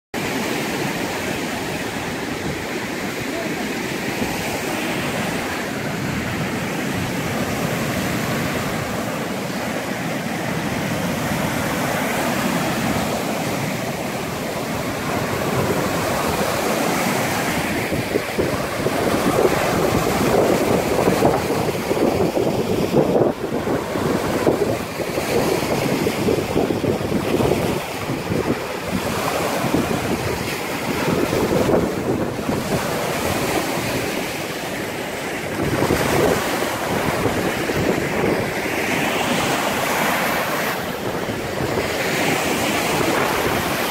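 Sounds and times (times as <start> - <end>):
surf breaking over rocks: 0.2 - 43.9
wind buffeting microphone: 0.2 - 43.9.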